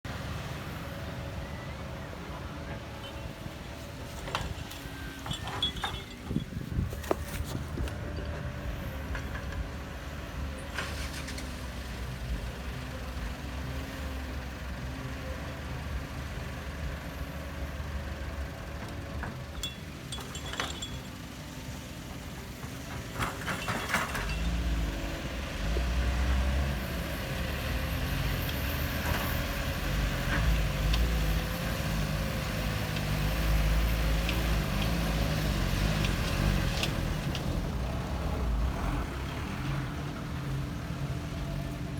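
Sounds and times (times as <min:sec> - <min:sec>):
construction vehicle engine running: 0:00.1 - 0:41.9.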